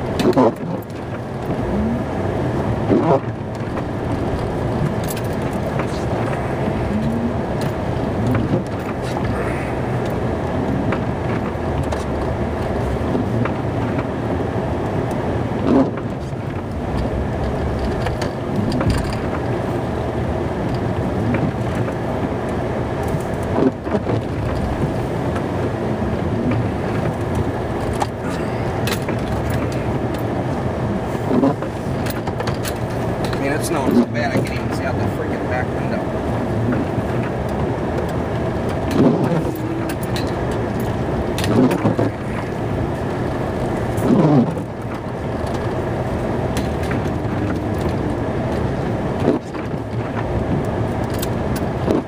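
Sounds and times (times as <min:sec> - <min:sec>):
truck engine and cab hum: 0:00.0 - 0:52.0.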